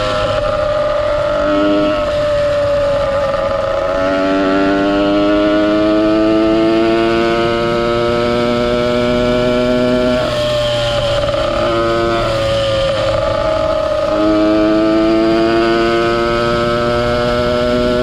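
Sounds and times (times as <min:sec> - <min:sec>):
two-stroke engine accelerating: 0:00.0 - 0:18.0.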